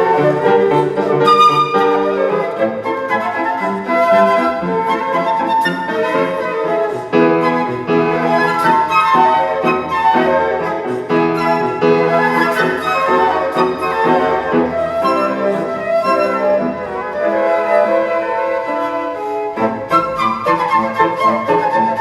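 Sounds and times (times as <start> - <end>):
flute playing a melody: 0.0 - 22.0
piano accompaniment: 0.0 - 22.0.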